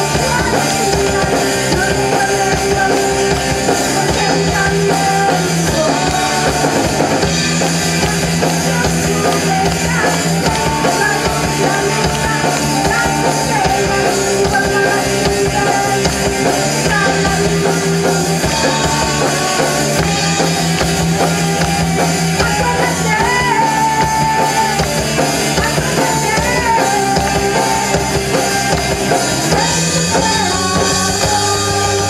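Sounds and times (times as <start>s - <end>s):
woman singing: 0.0s - 7.3s, 7.9s - 20.2s, 21.2s - 32.0s
drum kit: 0.0s - 32.0s
electric guitars: 0.0s - 32.0s.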